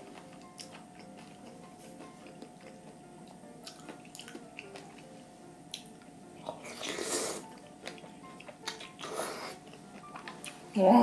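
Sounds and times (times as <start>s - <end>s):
person chewing: 0.0s - 5.1s, 5.7s - 10.6s.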